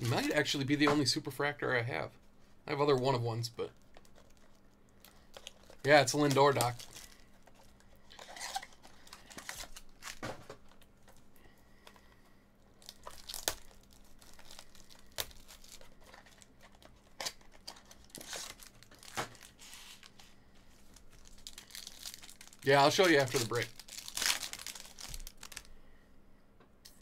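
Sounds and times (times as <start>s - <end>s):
foil wrappers crinkling and tearing: 3.0s - 25.7s.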